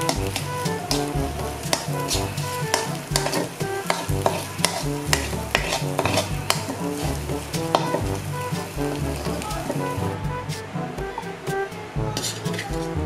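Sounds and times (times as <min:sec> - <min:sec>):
metal spoon scraping wok: 0:00.0 - 0:10.6, 0:12.2 - 0:12.9
food sizzling: 0:00.0 - 0:13.0.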